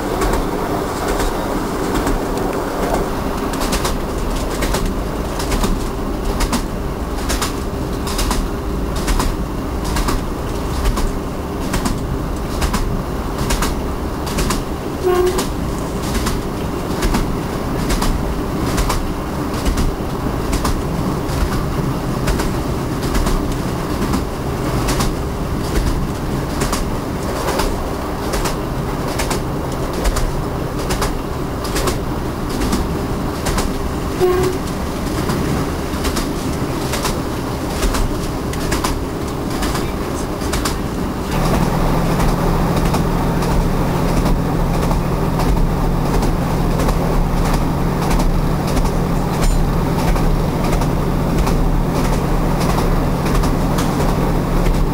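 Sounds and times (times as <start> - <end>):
train wheels clickety-clack: 0.0 - 54.9.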